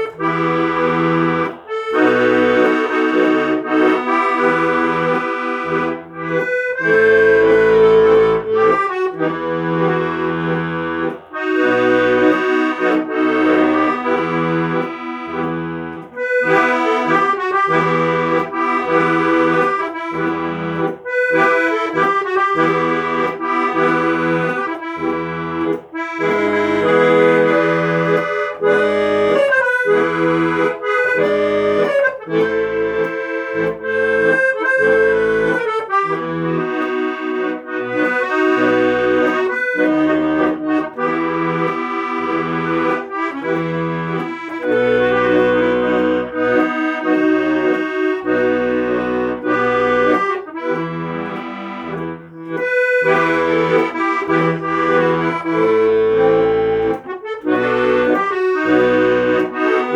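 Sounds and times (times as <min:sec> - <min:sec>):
accordion music: 0:00.0 - 0:59.9.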